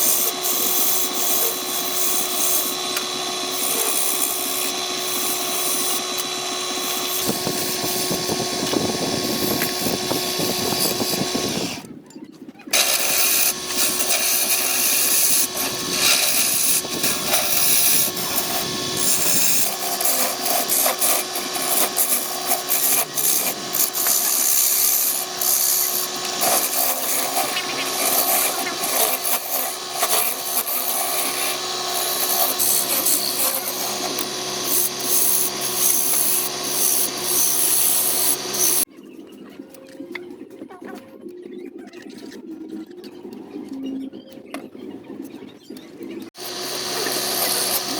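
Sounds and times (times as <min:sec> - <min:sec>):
lathe motor hum: 0:00.0 - 0:11.9, 0:12.8 - 0:38.9, 0:46.4 - 0:47.9
tool scraping spinning wood: 0:00.0 - 0:12.0, 0:12.7 - 0:38.9, 0:46.4 - 0:47.9.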